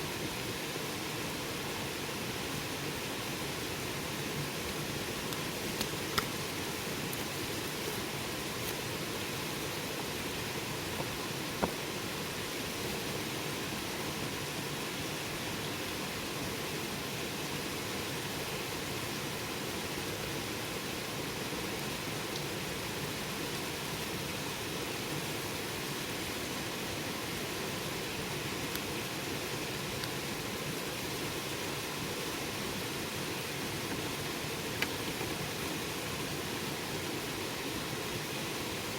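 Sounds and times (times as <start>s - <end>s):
campfire hissing: 0.0s - 38.9s.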